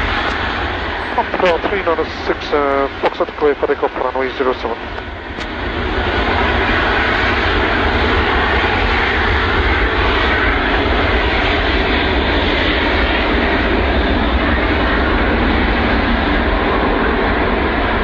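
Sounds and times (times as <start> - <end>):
jet engines at takeoff: 0.0 - 18.0.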